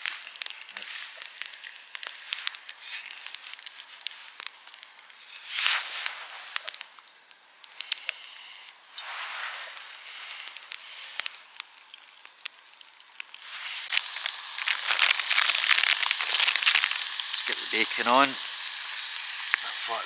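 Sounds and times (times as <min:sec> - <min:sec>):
food sizzling in frying pan: 0:00.0 - 0:20.0
wood fire crackling: 0:00.0 - 0:20.0.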